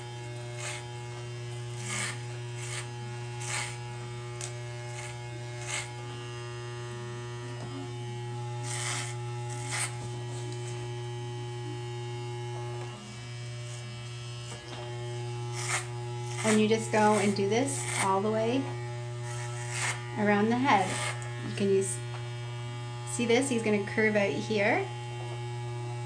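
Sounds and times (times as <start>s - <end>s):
clippers cutting hair: 0.0s - 26.0s
hair clippers buzzing: 0.0s - 26.0s.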